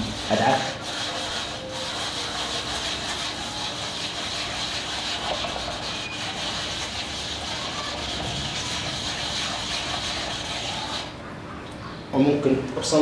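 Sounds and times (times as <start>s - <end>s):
hand scrubbing metal surface: 0.0s - 11.2s.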